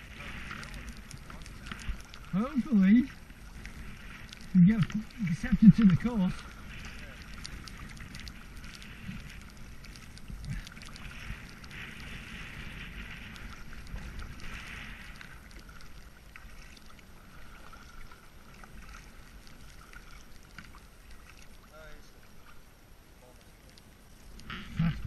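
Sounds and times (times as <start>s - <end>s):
water dripping: 0.0s - 22.0s
kayak paddle splashing in water: 0.0s - 22.6s.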